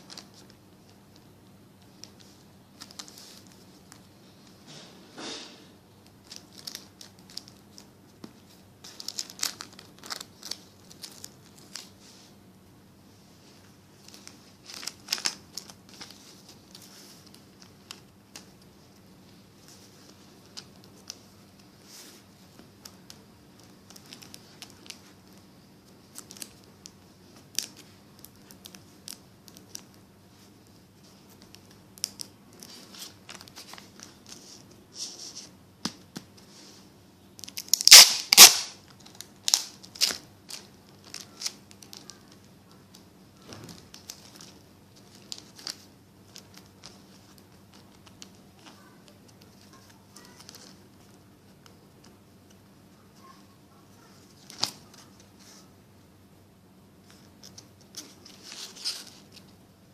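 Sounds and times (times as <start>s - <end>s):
paper crinkling: 0.0s - 4.6s, 6.0s - 12.4s, 13.4s - 36.8s, 37.4s - 55.7s, 57.0s - 59.6s.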